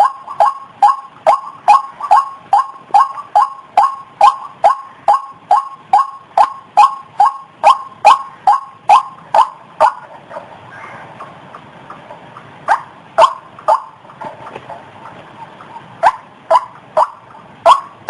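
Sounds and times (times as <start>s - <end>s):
waterhen calling harsh notes: 0.0s - 18.0s.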